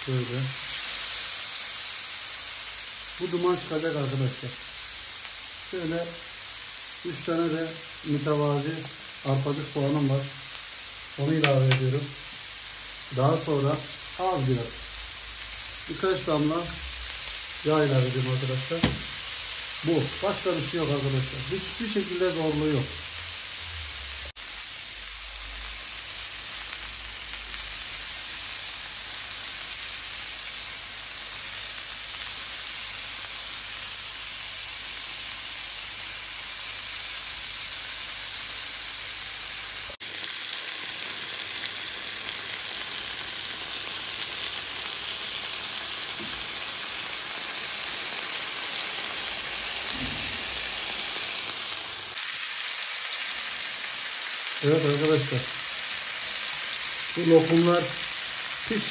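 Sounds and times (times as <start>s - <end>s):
meat sizzling in grill pan: 0.0s - 58.9s.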